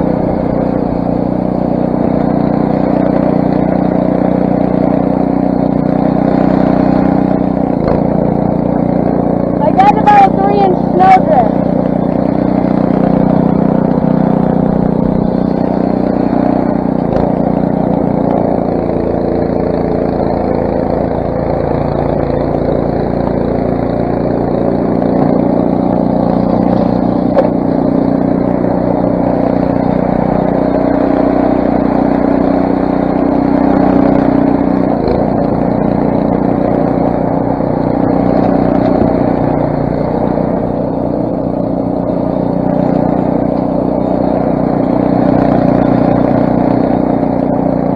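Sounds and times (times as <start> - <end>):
snowblower engine running: 0.0 - 47.9.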